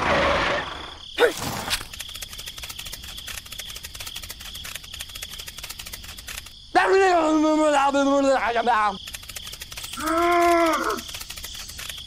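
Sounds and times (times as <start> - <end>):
insect-like chirping: 0.0 - 12.0.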